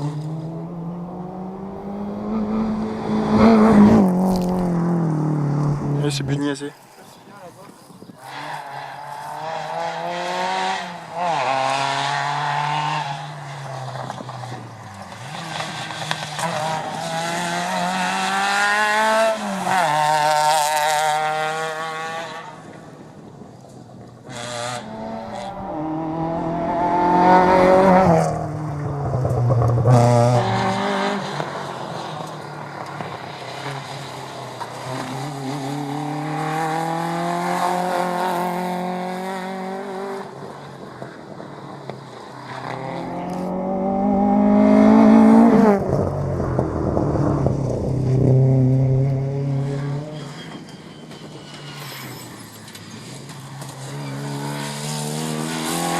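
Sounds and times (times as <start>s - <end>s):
rally car engines accelerating: 0.0s - 6.6s, 8.2s - 23.1s, 24.3s - 51.8s, 52.6s - 55.9s.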